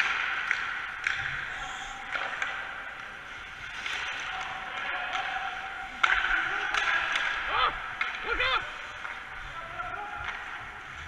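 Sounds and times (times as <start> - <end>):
sticks clacking on pucks: 0.0 - 9.6, 10.2 - 11.0
skates scraping ice: 0.0 - 11.0.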